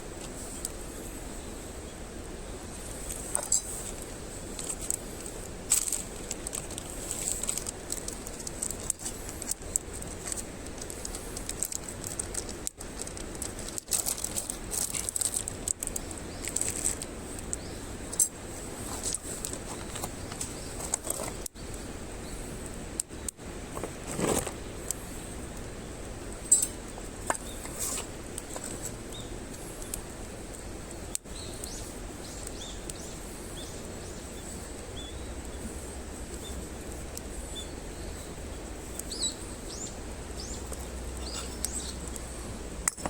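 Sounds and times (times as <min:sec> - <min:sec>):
campfire crackling and popping: 0:00.0 - 0:01.4, 0:02.1 - 0:43.0
fire hissing: 0:00.0 - 0:43.0.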